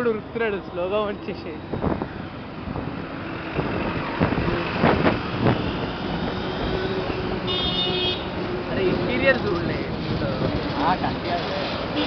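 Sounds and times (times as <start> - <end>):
vehicle and motorbike engines: 0.0 - 12.0.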